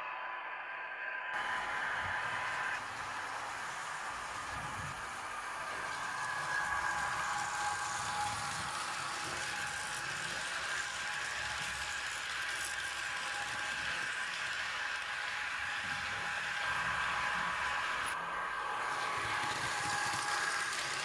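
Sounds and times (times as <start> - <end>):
model train motor whir: 1.4 - 21.0
train wheels on track: 1.4 - 21.0.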